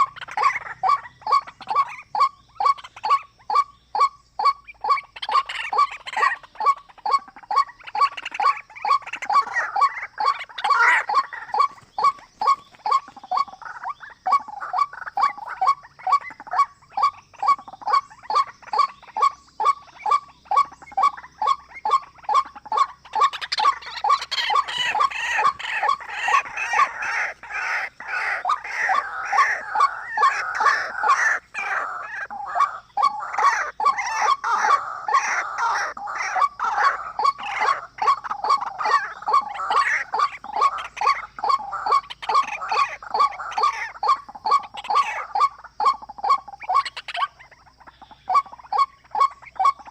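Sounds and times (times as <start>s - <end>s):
high bird chattering: 0.0s - 49.9s
repeated bird call notes: 0.0s - 49.9s.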